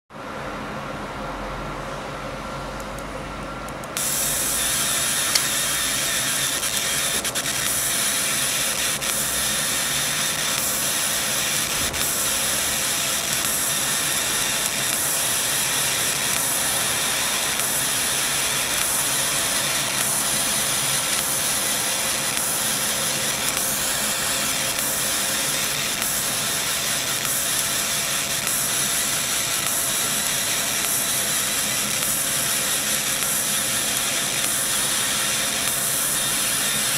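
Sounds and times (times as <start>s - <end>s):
air hissing at cutting head: 4.0s - 36.9s.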